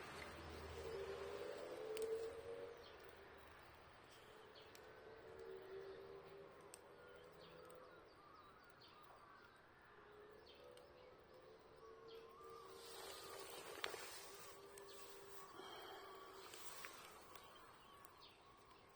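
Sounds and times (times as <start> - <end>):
faint birds chirping: 0.0 - 18.9.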